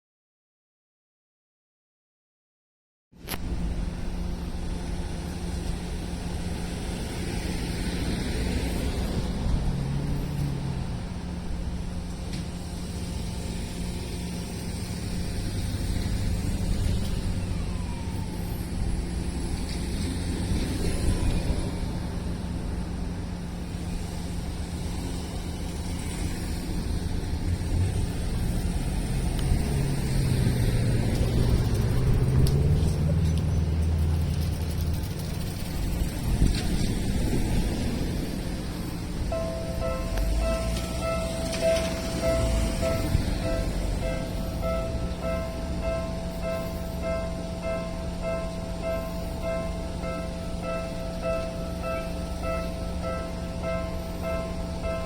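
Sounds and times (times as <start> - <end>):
electric train running on rails: 3.2 - 55.0
low motor hum: 3.2 - 55.0
low vehicle rumble: 3.2 - 55.0.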